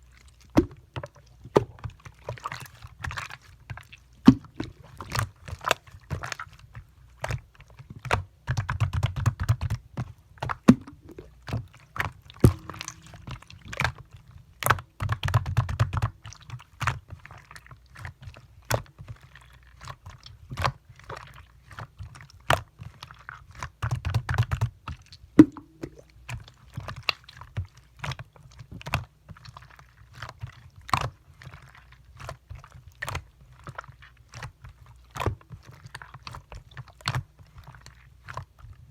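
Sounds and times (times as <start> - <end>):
slime squelching: 0.0 - 8.8, 9.6 - 38.9.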